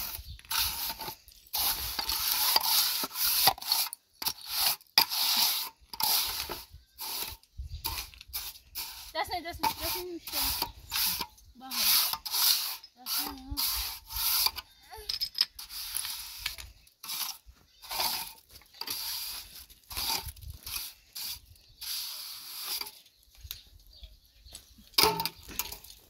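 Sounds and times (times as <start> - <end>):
trowel scraping wet mortar: 0.0 - 23.2.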